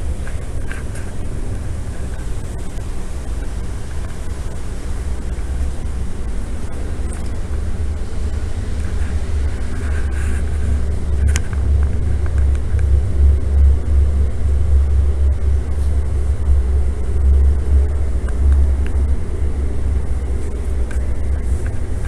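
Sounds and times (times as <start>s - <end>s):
low air handling rumble: 0.0s - 22.0s.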